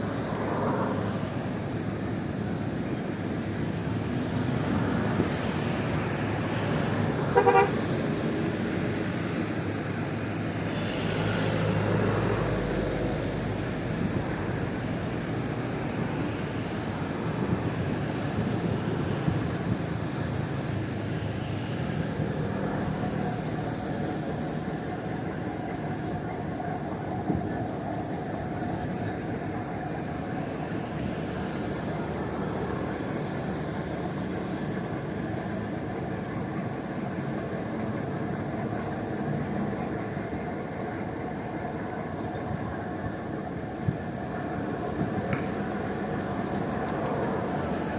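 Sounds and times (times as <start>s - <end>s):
ferry engines droning: 0.0s - 47.9s.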